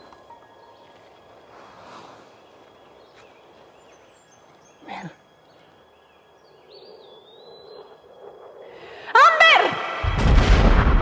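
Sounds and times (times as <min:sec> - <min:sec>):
faint outdoor ambience: 0:00.0 - 0:10.9.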